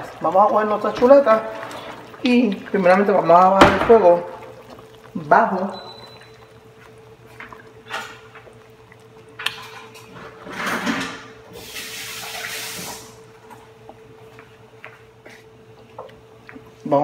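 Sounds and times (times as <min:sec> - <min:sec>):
tap water running: 0:00.0 - 0:14.0.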